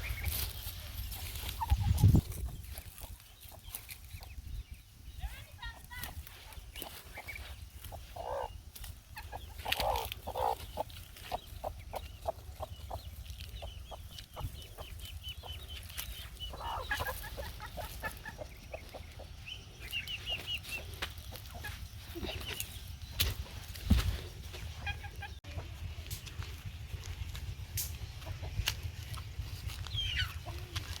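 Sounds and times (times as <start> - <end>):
chickens clucking: 0.0 - 31.0
low steady rumble: 0.0 - 31.0.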